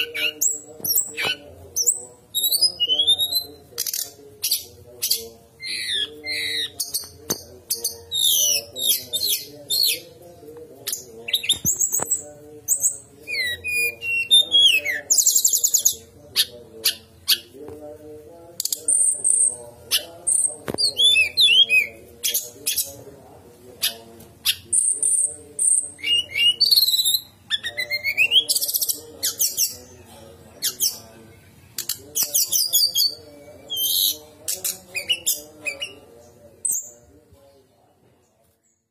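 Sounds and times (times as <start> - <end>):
songbird singing: 0.0 - 23.1, 23.8 - 38.9.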